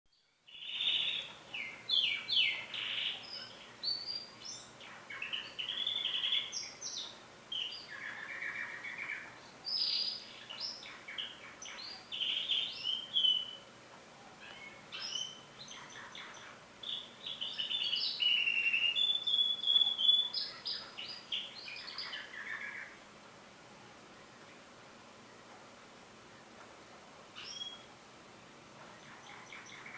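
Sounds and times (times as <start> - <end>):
canary singing trills: 0.1 - 23.1, 27.3 - 28.0, 28.7 - 29.9.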